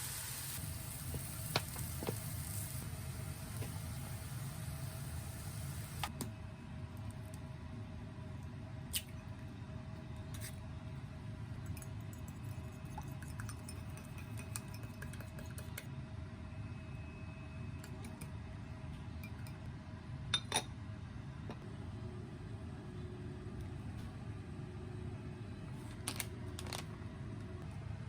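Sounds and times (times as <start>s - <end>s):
steady low hum: 0.6s - 28.0s.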